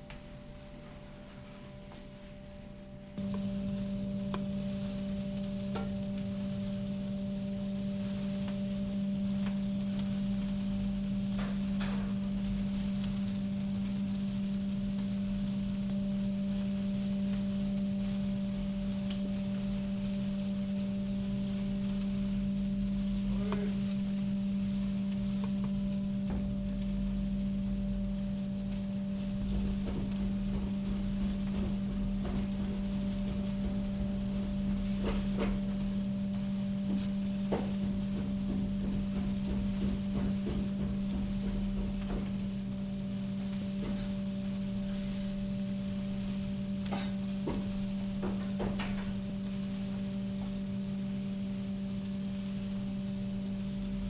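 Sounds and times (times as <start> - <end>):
extraction fan hum: 0.0 - 54.0
skewers sizzling over charcoal: 0.0 - 54.0.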